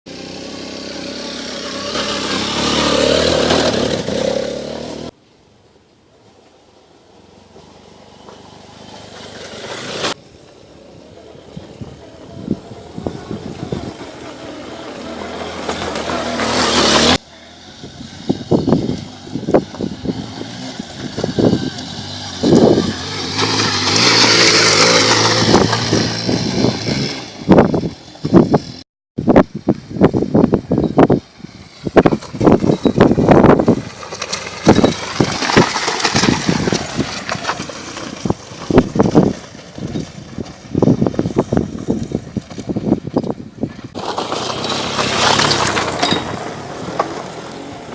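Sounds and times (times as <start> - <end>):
motorcycle engine revving: 0.1 - 5.2, 11.0 - 28.8, 30.0 - 47.9.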